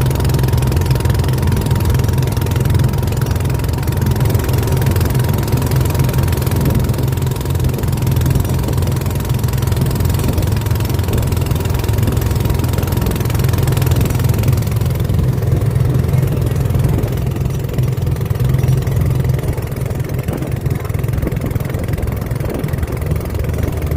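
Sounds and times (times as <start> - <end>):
boat engine droning: 0.0 - 23.9.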